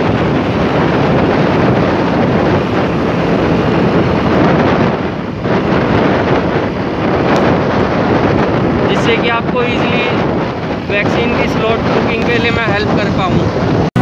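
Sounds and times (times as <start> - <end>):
road traffic passing: 0.0 - 9.6, 10.2 - 14.0
wind buffeting microphone: 0.0 - 14.0.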